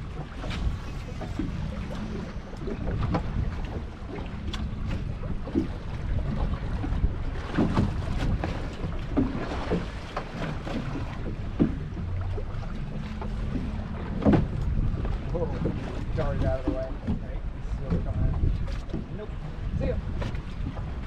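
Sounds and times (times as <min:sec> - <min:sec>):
knocks and splashes: 0:00.0 - 0:21.0
water around boat hull: 0:00.0 - 0:21.0
wind buffeting microphone: 0:00.0 - 0:21.0.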